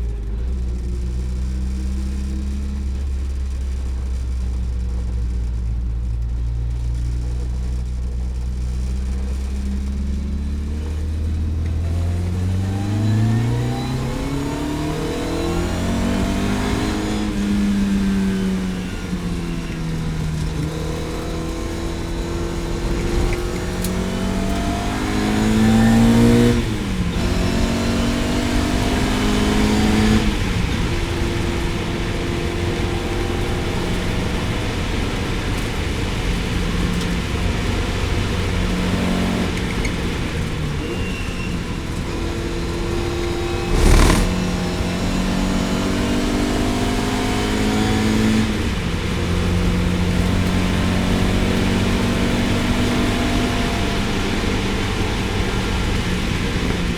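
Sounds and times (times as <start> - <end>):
race car engine revving: 6.7 - 56.9.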